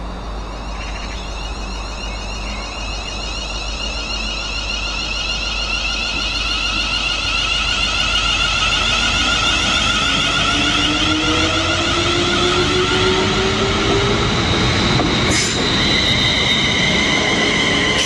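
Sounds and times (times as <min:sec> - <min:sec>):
electric train passing: 0:00.0 - 0:18.0
traction motors whining: 0:00.0 - 0:18.0.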